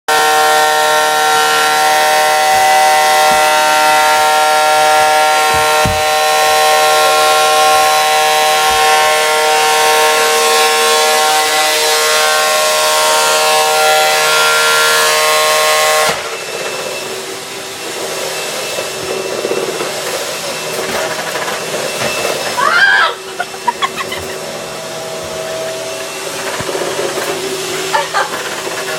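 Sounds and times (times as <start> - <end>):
vacuum cleaner running: 0.1 - 28.9.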